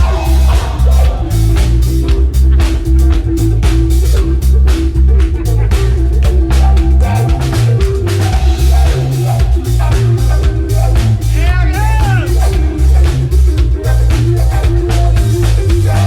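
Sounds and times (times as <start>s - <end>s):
band music with drums and guitar: 0.0s - 16.0s.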